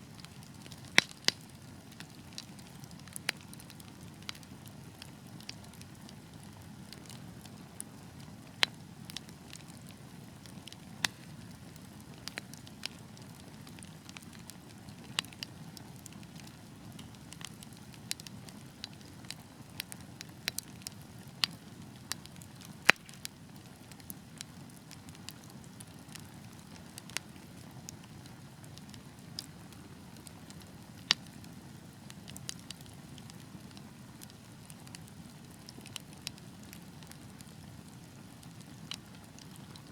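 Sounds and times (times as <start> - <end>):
fire rumble and hiss: 0.0 - 39.9
logs crackling and popping: 0.0 - 39.9.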